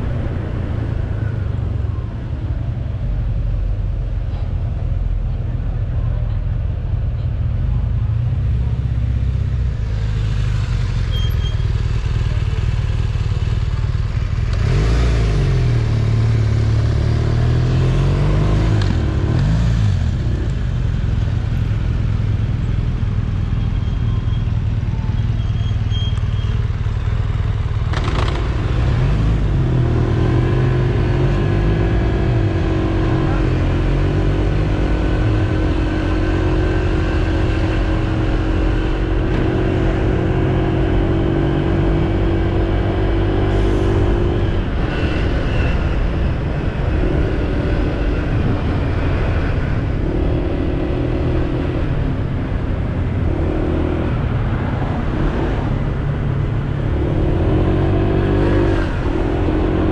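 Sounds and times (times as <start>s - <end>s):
scooter engine idling and accelerating: 0.0s - 59.9s.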